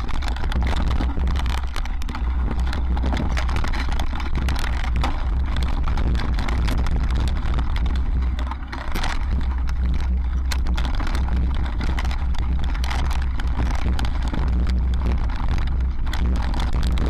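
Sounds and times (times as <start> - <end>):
bike rattling over rocks: 0.0 - 17.0
wind rumble on microphone: 0.0 - 17.0.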